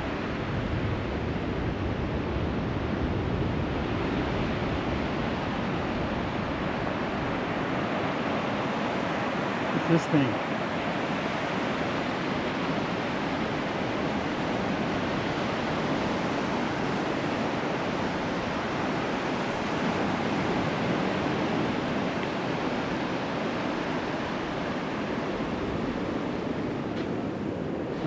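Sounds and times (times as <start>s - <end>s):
surf rushing: 3.8s - 28.0s.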